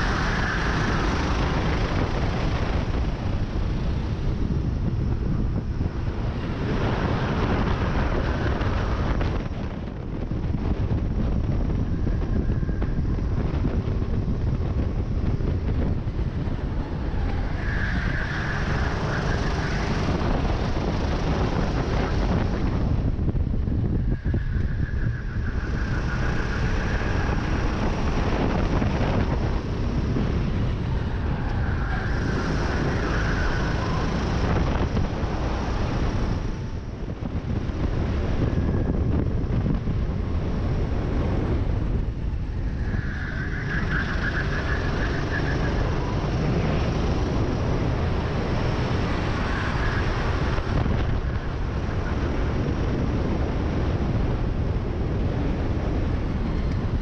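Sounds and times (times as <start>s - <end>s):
racing kart engine running hard: 0.0s - 57.0s
wind buffeting on microphone: 0.0s - 57.0s.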